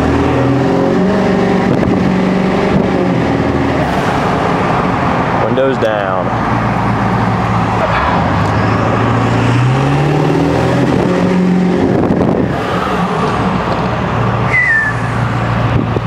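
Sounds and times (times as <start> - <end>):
diesel truck engine accelerating: 0.0 - 16.0.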